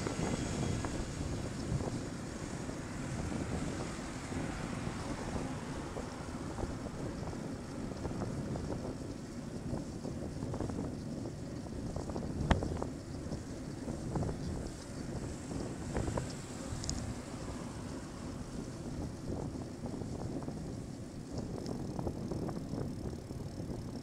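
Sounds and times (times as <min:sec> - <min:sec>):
road traffic rumble: 0:00.0 - 0:24.0
wind buffeting microphone: 0:00.0 - 0:24.0.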